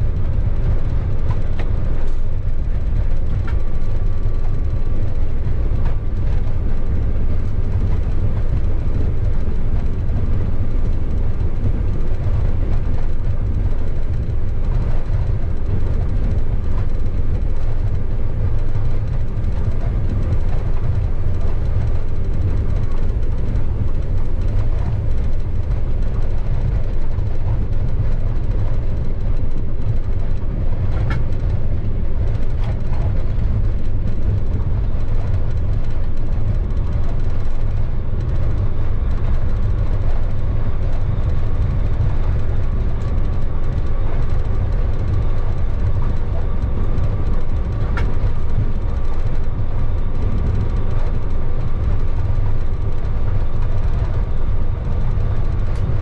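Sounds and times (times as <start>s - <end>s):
locomotive rumbling on rails: 0.0s - 56.0s.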